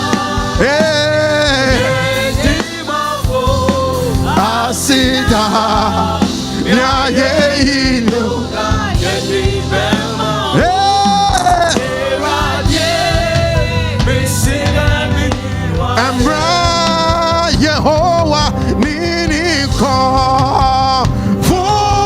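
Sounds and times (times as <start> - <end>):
gospel worship singing: 0.0 - 22.0
instrumental accompaniment: 0.0 - 22.0.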